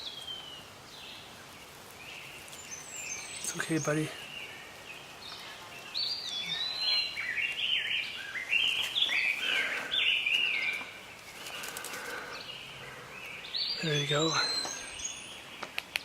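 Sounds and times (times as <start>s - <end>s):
baby birds chirping: 0.0s - 15.8s.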